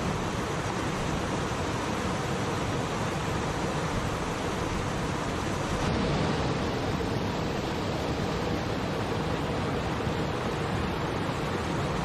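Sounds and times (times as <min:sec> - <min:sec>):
waterfall rushing and splashing: 0:00.0 - 0:12.0.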